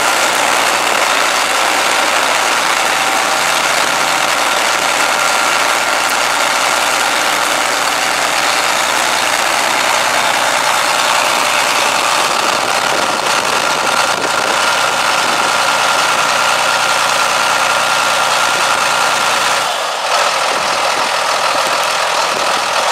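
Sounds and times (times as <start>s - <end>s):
tractor diesel engine idling: 0.0s - 22.9s.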